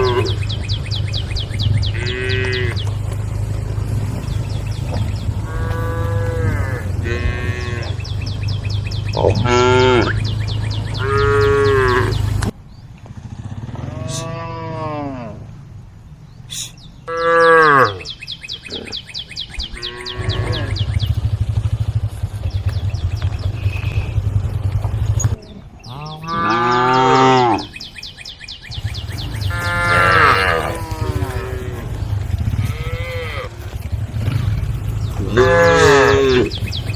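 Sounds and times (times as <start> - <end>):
cows mooing: 0.0 - 12.5, 13.6 - 15.6, 17.0 - 19.0, 19.6 - 21.2, 23.3 - 27.8, 28.9 - 36.9
low engine hum: 0.0 - 16.3, 19.0 - 26.0, 27.6 - 36.9.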